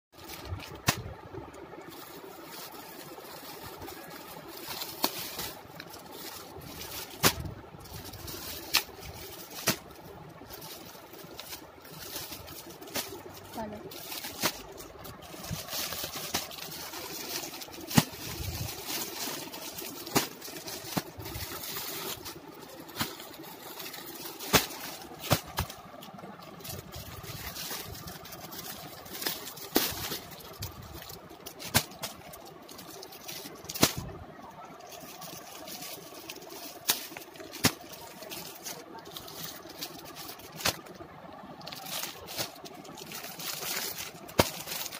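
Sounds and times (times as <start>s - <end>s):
plastic packets rustling: 0.2s - 44.9s.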